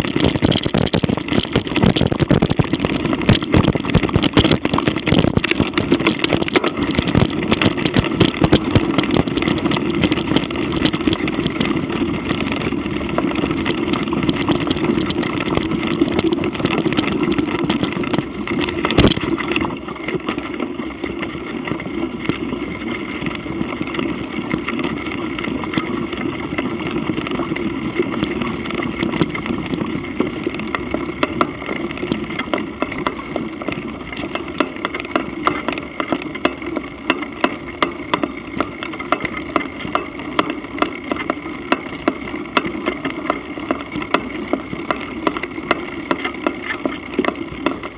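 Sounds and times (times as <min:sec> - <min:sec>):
bike rattling and knocking: 0:00.0 - 0:47.9
wind and tyre rumble: 0:00.0 - 0:47.9.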